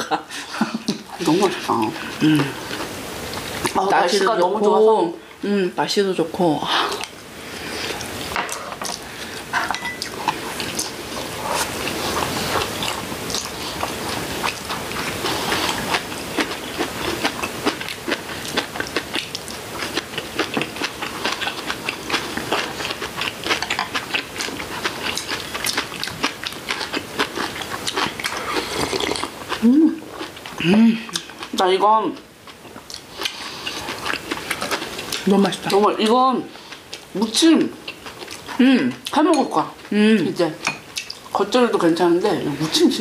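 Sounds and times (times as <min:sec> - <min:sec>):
people chewing: 0:00.0 - 0:04.9, 0:06.1 - 0:43.0.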